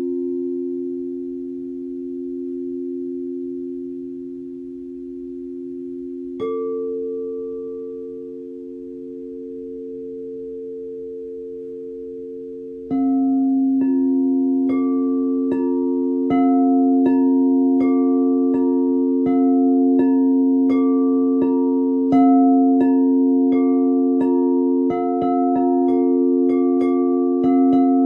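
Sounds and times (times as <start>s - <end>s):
singing bowls humming: 0.0s - 28.0s
steel tongue drum notes: 0.0s - 28.0s.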